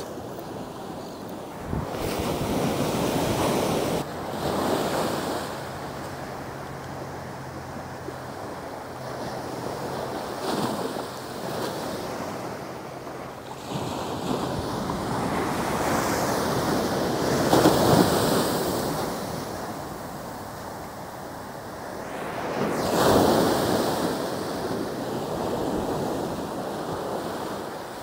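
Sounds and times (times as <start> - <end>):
ocean surf breaking on beach: 0.0 - 28.0
wind on microphone: 0.0 - 28.0.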